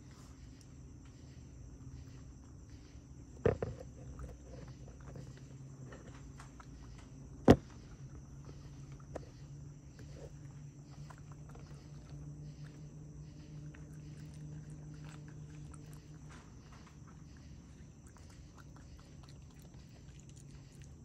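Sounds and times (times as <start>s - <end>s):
insects chirring: 0.0s - 21.0s
raccoon rummaging through food scraps: 1.8s - 21.0s.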